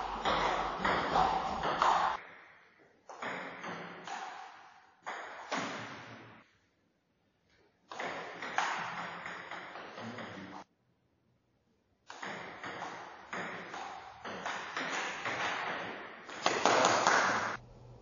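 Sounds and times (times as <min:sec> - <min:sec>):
table tennis ball hits and bounces: 0:00.0 - 0:06.4, 0:07.9 - 0:10.5, 0:12.1 - 0:17.6.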